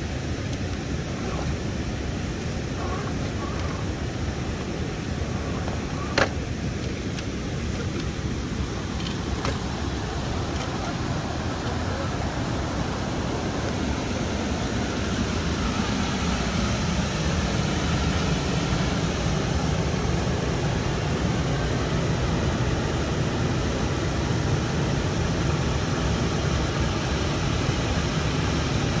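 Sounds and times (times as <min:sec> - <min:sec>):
waterfall and rushing river roar: 0:00.0 - 0:29.0.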